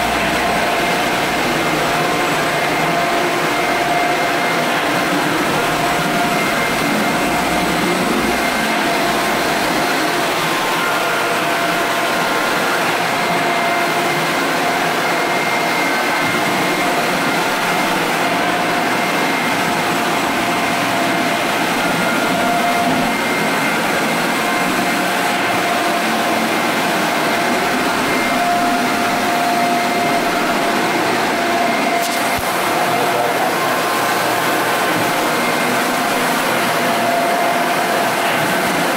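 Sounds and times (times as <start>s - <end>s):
floor sander motor running: 0.0s - 38.9s.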